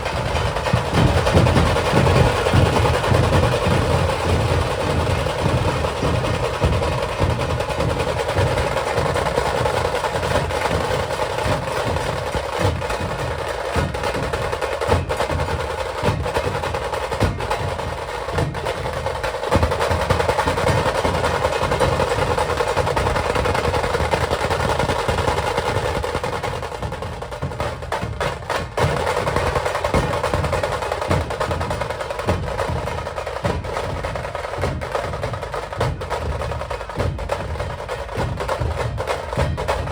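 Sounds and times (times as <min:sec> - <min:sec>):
dhol drums beating: 0:00.0 - 0:39.9
fast tasha drum rolls: 0:00.0 - 0:39.9.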